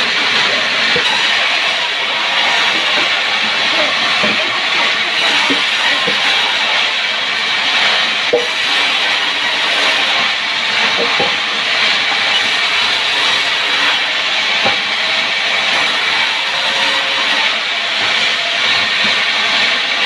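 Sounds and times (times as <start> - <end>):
power saw cutting wood: 0.0 - 20.0.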